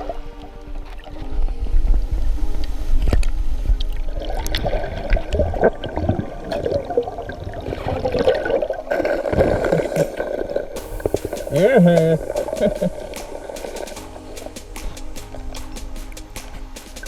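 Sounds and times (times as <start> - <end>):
water sloshing and gurgling: 0.0 - 15.6.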